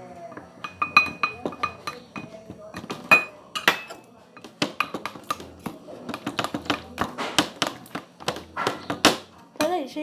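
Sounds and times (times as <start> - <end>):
utensil stirring slime in a pot: 0.0 - 9.4.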